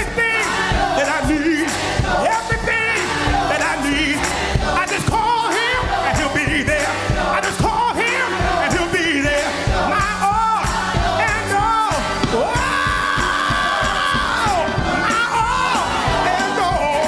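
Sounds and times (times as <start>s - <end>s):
choir singing: 0.0s - 17.0s
man singing lead: 0.0s - 17.0s
steady beat: 0.0s - 17.0s.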